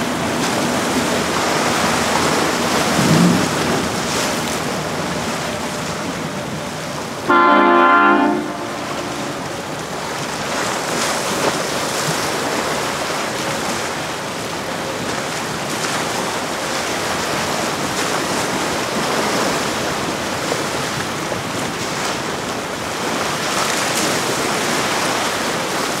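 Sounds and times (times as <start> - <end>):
choppy water rushing: 0.0 - 26.0
wind: 0.0 - 26.0.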